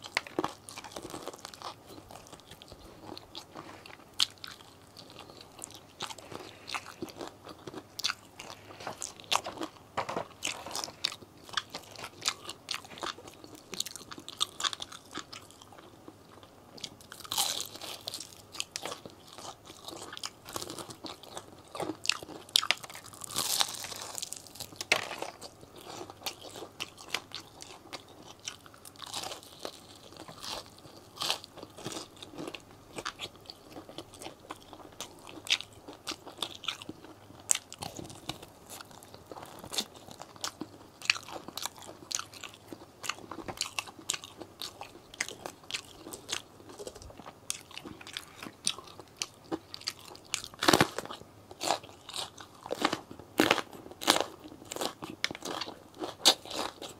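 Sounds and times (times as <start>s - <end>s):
fried chicken crunching: 0.0s - 15.9s, 16.8s - 56.9s
chewing: 0.0s - 56.9s.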